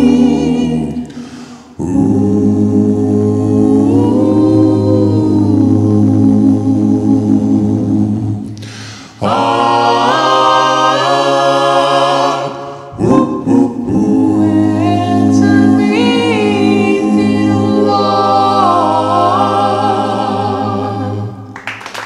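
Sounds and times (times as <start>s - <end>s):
group singing in close harmony: 0.0s - 21.6s.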